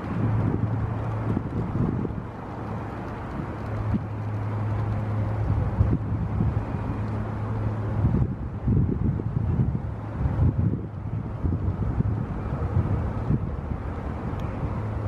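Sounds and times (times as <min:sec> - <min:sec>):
distant engine hum: 0:00.0 - 0:15.0
wind buffeting microphone: 0:00.0 - 0:15.0.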